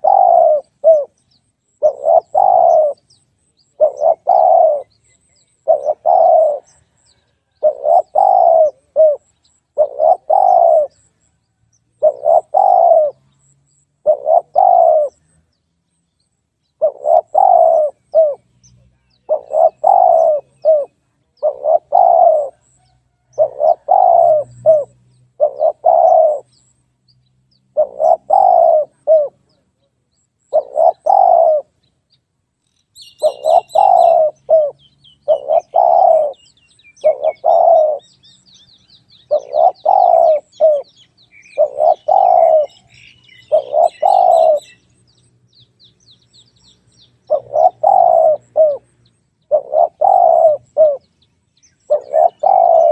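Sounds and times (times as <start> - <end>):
dove cooing: 0.0 - 11.2, 12.0 - 15.4, 16.8 - 26.6, 27.7 - 29.7, 30.5 - 31.8, 33.0 - 44.8, 47.2 - 51.1, 51.9 - 52.9
small bird chirping: 0.0 - 52.9.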